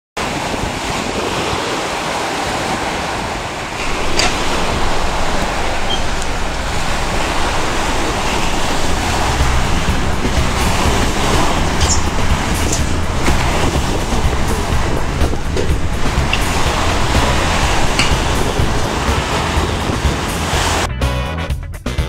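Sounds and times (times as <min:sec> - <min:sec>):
waves washing onto beach: 0:00.2 - 0:20.9
wind on microphone: 0:00.2 - 0:20.9.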